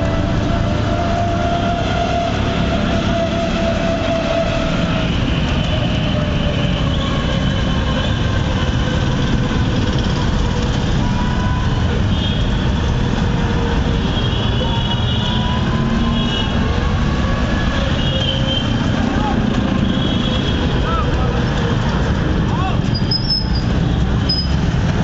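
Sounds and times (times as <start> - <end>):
vehicle rumble: 0.0 - 25.0.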